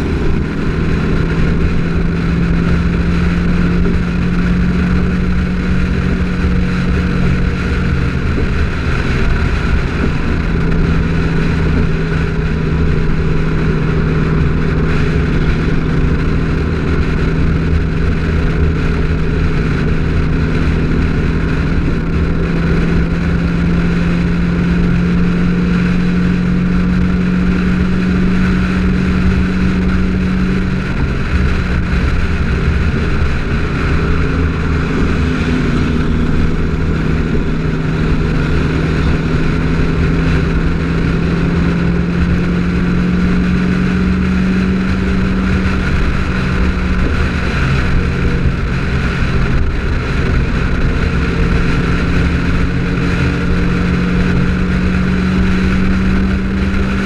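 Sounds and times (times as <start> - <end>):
car engine cruising: 0.0 - 57.0
road noise: 0.0 - 57.0
wind noise: 0.0 - 57.0.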